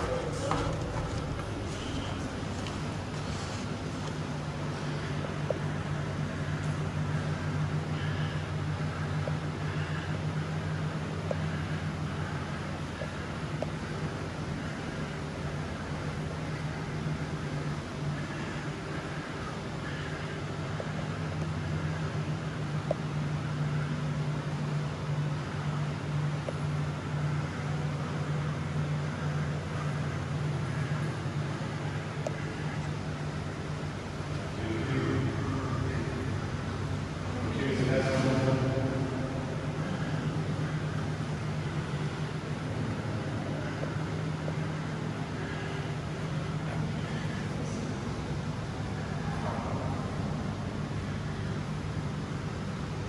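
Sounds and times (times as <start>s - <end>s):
air-handling units humming: 0.0s - 53.0s.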